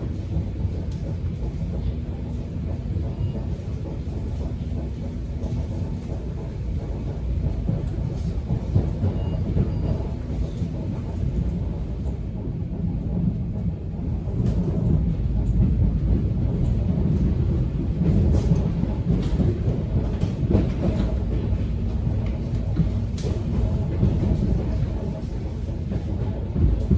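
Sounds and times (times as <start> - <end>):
subway train rumbling: 0.0 - 26.9.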